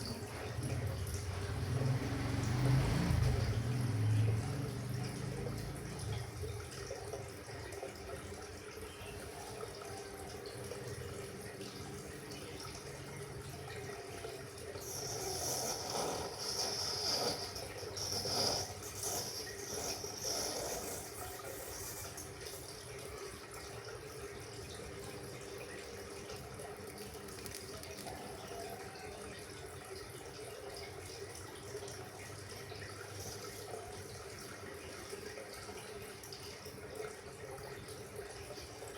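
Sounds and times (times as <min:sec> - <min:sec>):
water running and splashing: 0:00.0 - 0:38.9.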